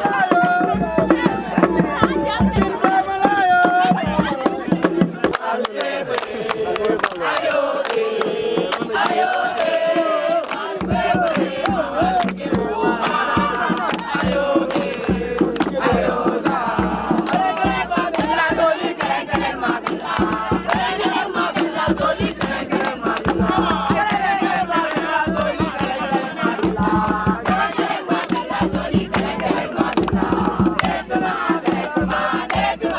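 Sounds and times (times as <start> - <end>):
crowd chanting and singing: 0.0 - 32.9
fast percussive beat: 0.0 - 32.9.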